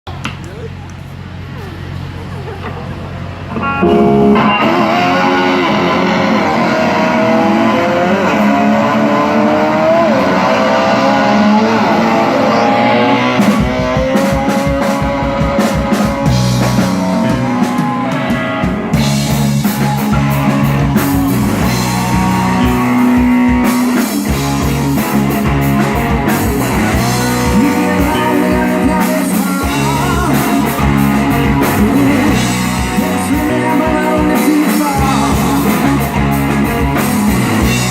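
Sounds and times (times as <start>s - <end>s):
bass guitar: 0.0s - 37.9s
guitar sliding notes: 3.4s - 37.9s
drum kit: 3.6s - 37.9s.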